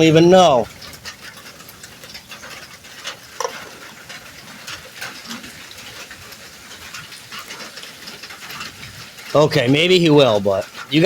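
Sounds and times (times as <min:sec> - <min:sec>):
burger patties sizzling: 0:00.0 - 0:11.0.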